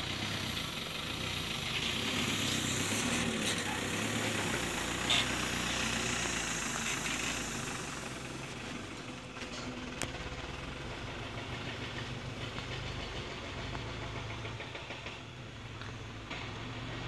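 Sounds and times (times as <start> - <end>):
diesel truck engine at low revs: 0.0 - 17.0.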